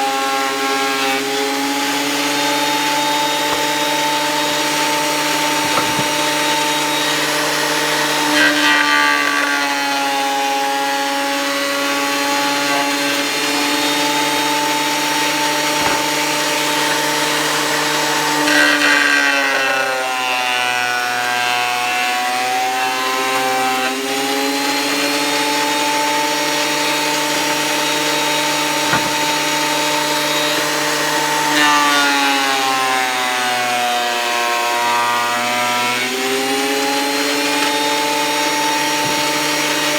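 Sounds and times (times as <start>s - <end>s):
thickness planer motor whine: 0.0s - 39.9s.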